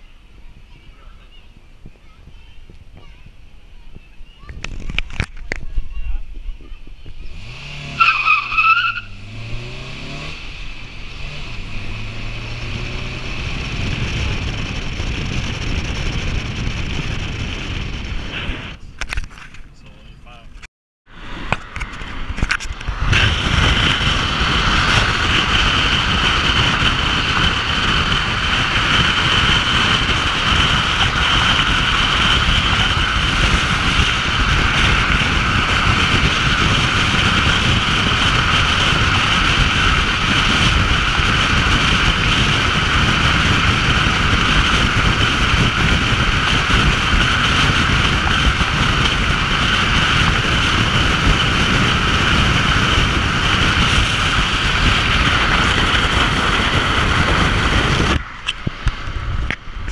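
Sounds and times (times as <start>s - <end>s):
wind buffeting a camera: 0.0s - 8.0s, 8.9s - 59.9s
tyre roar on concrete: 0.0s - 59.9s
constant whine: 10.3s - 59.9s.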